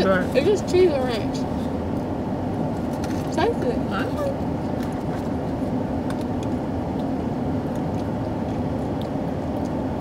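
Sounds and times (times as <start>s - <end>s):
car engine low hum: 0.0s - 10.0s.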